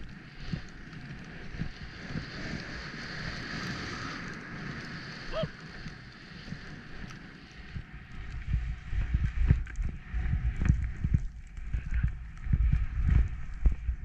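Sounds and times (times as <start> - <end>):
wind on microphone: 0.0 - 14.0
skis swishing through snow: 0.1 - 14.0.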